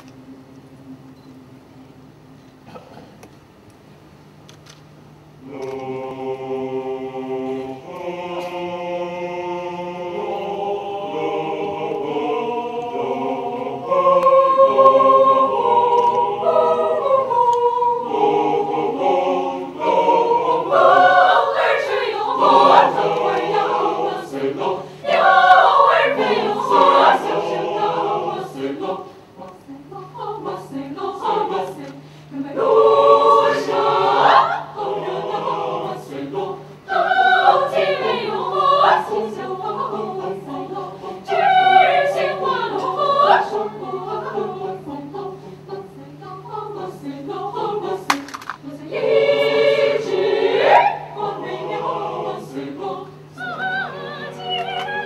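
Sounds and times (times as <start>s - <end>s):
mixed choir singing a cappella: 5.4s - 55.0s.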